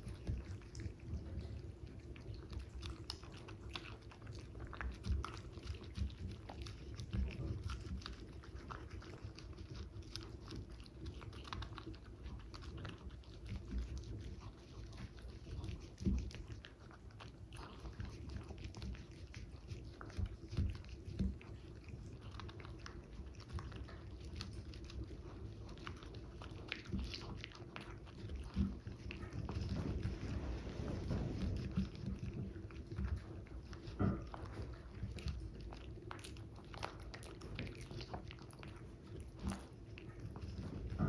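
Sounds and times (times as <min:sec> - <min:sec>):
dog chewing: 0:00.0 - 0:41.0.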